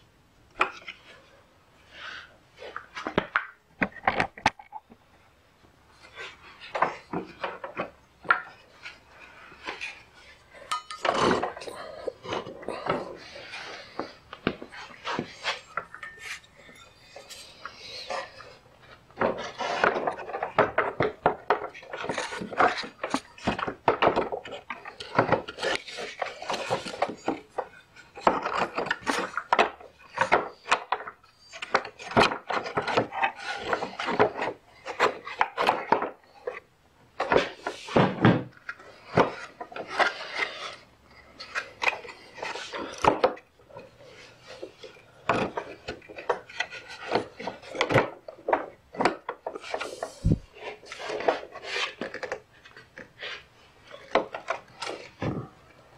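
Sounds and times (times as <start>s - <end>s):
plastic scraping and rubbing: 0.5s - 5.2s, 5.9s - 55.9s.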